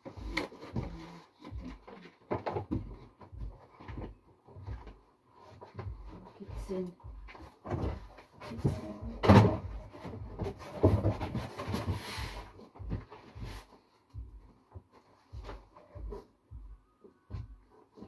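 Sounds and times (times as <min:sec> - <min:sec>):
thumps and knocks in cardboard box: 0:00.0 - 0:16.3, 0:17.3 - 0:18.0.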